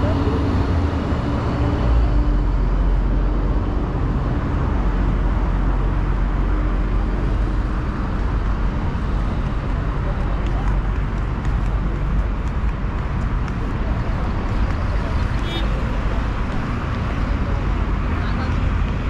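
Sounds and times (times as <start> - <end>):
cars and bus passing: 0.0 - 19.0.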